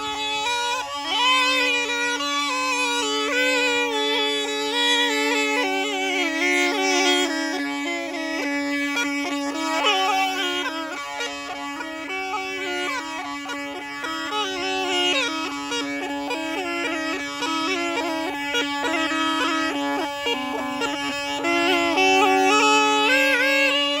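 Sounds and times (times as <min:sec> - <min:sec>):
reed pipe playing a winding melody: 0:00.0 - 0:24.0
steady drone: 0:00.0 - 0:24.0.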